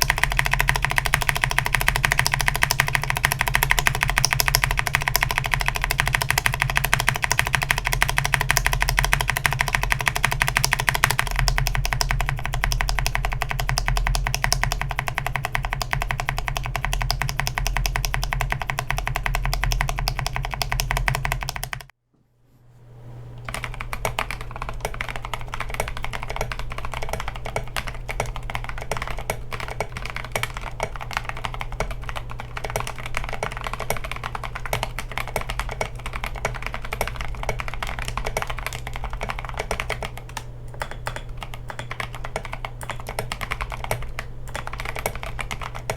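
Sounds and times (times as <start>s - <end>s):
mechanical keyboard typing: 0.0s - 21.9s, 23.4s - 45.9s.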